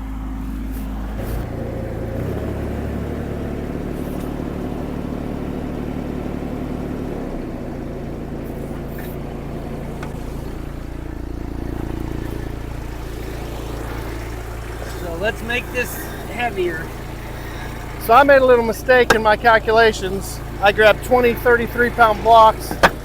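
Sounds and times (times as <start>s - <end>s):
skid steer engine running: 0.0s - 23.0s.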